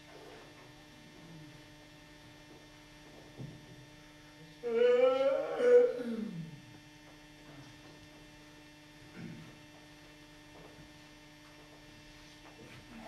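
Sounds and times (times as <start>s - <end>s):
low electrical mains hum: 0.0s - 13.0s.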